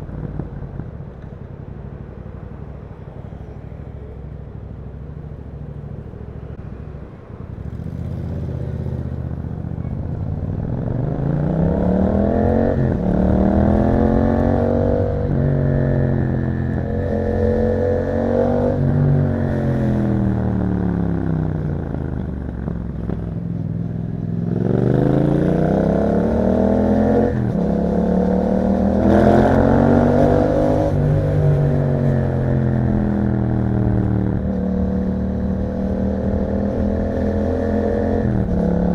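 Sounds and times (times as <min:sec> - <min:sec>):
motorcycle engine accelerating: 0:04.9 - 0:38.9.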